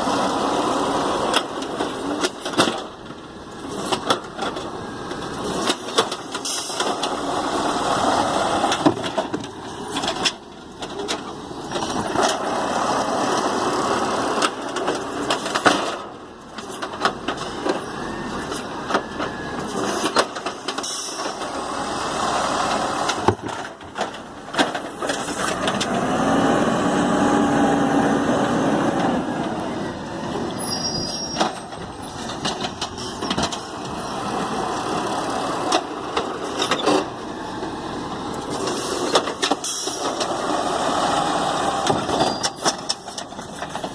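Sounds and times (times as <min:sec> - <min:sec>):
garbage truck engine running: 0:00.0 - 0:43.9.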